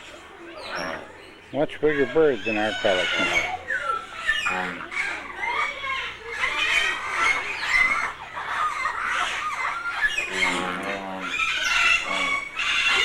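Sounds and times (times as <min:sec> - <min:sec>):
birds squawking and clucking: 0:00.0 - 0:13.0
lower bird call: 0:00.0 - 0:13.0.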